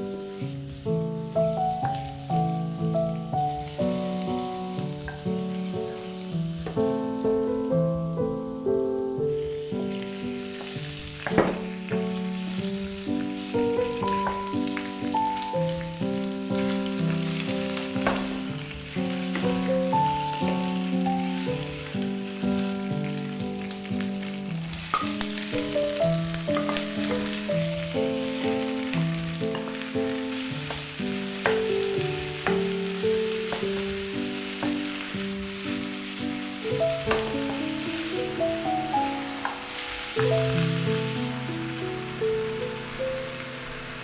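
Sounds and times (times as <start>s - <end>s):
food sizzling in a frying pan: 0.0s - 44.0s
instrumental melody: 0.0s - 44.0s.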